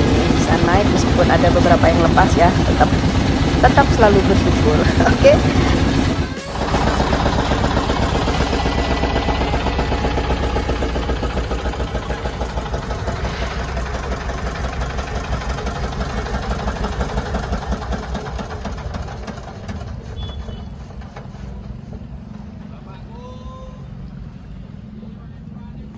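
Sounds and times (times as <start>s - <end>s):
boat engine chugging: 0.0s - 25.0s.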